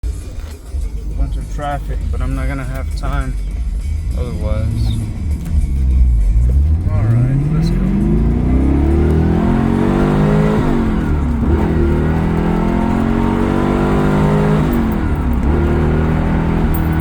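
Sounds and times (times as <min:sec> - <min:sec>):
car engine accelerating hard: 0:01.2 - 0:17.0.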